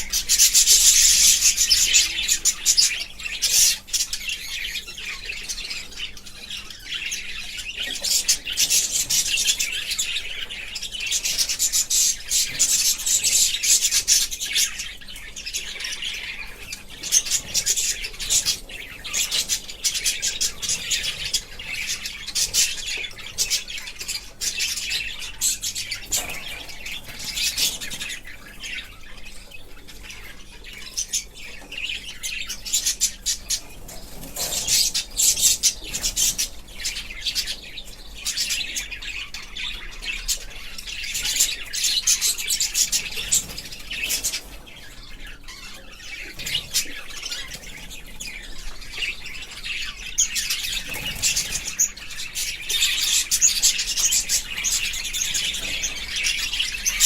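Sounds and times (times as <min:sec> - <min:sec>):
budgies chirping: 0:00.0 - 0:57.0.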